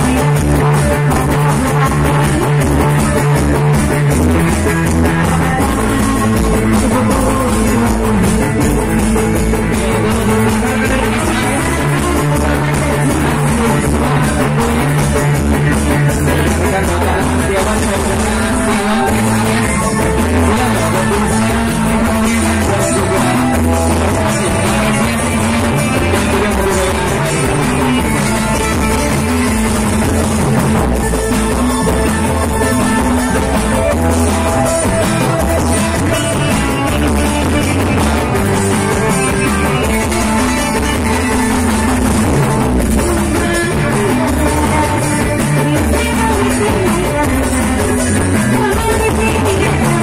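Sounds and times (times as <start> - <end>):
loud music: 0.0 - 50.0.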